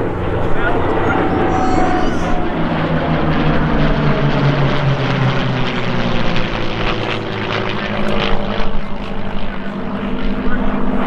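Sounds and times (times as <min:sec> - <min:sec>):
propeller planes flying past: 0:00.0 - 0:11.0.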